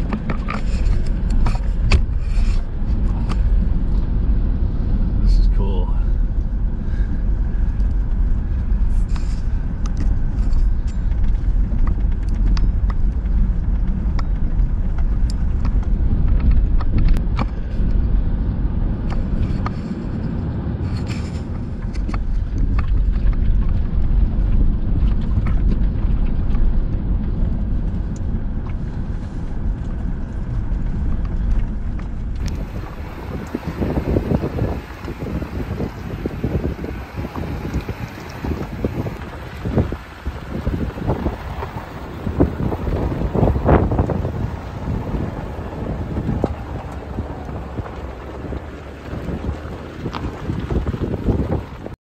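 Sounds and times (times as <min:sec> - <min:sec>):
vehicle engine and tyres rumbling: 0:00.0 - 0:52.0.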